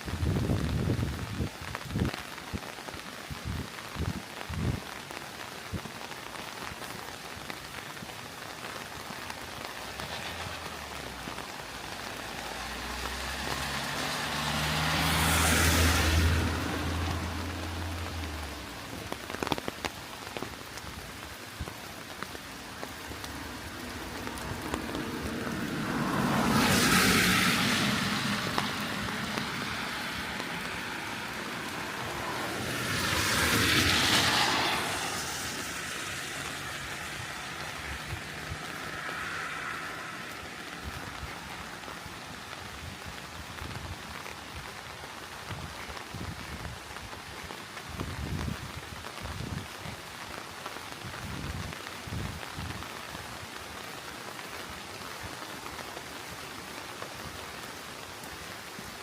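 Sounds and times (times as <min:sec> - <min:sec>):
steady rain: 0:00.0 - 0:59.0
vehicles passing on wet road: 0:00.0 - 0:59.0.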